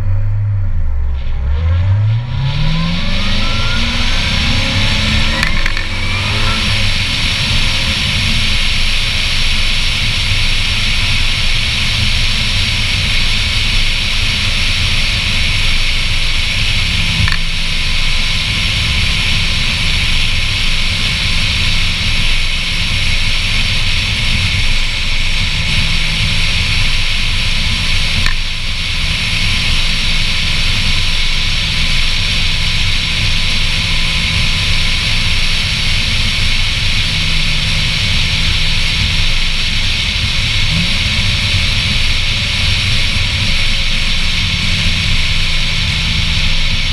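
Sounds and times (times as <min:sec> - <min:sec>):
car engine droning: 0:00.0 - 0:46.9
road noise: 0:00.0 - 0:46.9.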